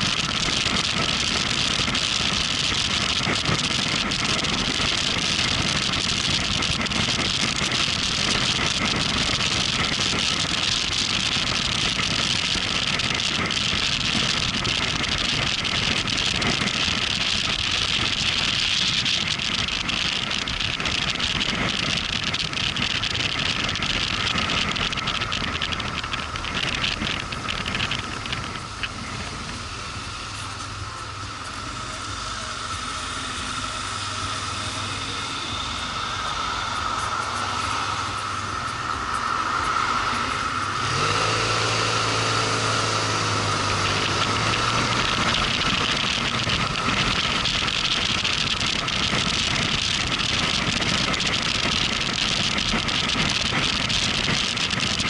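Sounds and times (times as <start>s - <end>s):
motorcycle engine: 0.0s - 55.0s
wind noise: 0.0s - 55.0s.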